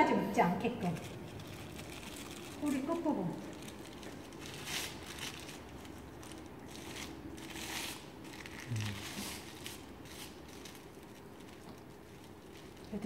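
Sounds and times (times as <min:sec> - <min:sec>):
grooming wrap crinkling: 0:00.5 - 0:13.0.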